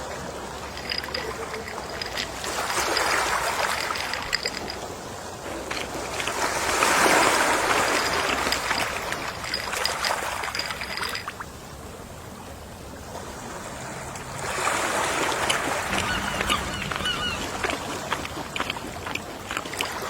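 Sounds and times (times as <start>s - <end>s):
water running back crackling: 0.0s - 11.7s, 14.1s - 20.0s
sea waves washing onto shore: 0.0s - 20.0s.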